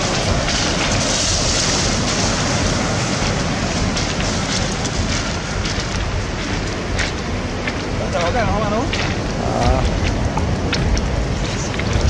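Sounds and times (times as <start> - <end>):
sea water rushing: 0.0 - 12.0.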